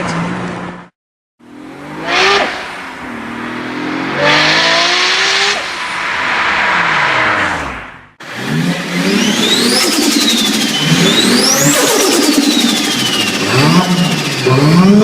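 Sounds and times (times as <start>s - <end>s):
car engine revving hard: 1.5s - 15.0s.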